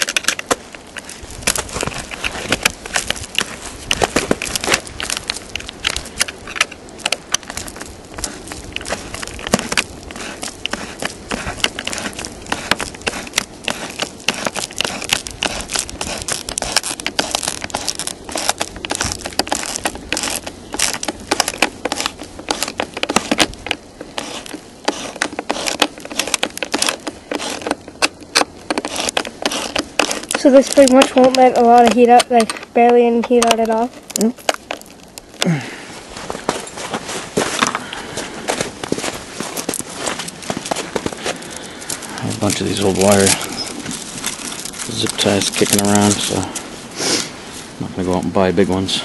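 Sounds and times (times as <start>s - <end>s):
plastic duct jacket crinkling: 0.0s - 46.8s.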